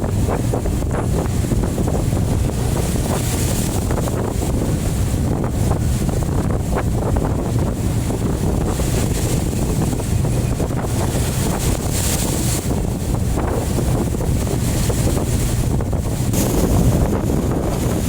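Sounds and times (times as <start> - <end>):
waves rushing against hull: 0.0 - 18.0
wind buffeting microphone: 0.0 - 18.0.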